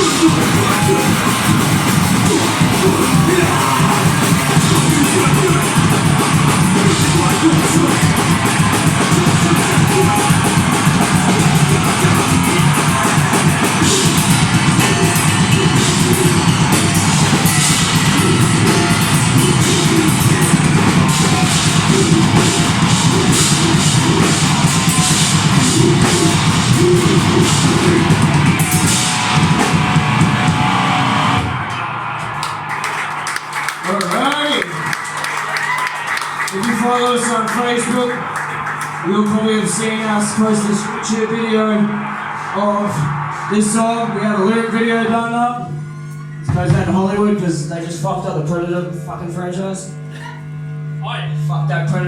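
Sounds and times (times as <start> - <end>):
loud live metal band: 0.0 - 52.0.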